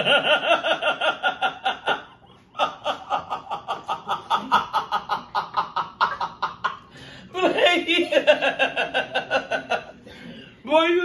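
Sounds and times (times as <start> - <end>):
woman laughing hard: 0.0 - 10.0.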